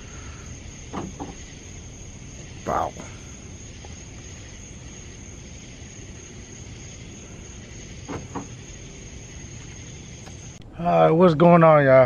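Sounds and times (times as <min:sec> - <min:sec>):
crickets chirping: 0:00.0 - 0:12.0
low steady rumble: 0:00.0 - 0:12.0.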